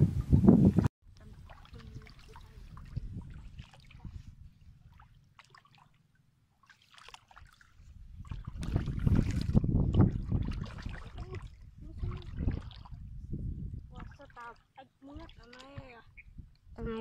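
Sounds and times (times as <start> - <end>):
legs sloshing through shallow water: 1.2 - 13.2, 13.8 - 16.2.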